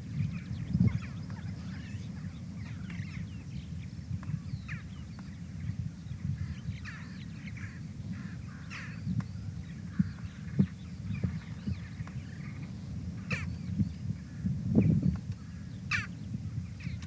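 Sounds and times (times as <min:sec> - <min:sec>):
birds chirping and squawking: 0:00.1 - 0:05.4, 0:06.2 - 0:17.0.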